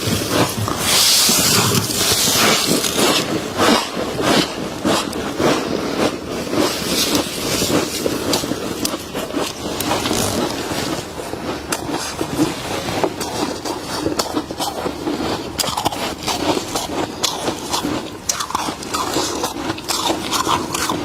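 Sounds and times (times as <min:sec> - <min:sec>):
freezer frost crunching: 0:00.0 - 0:21.0.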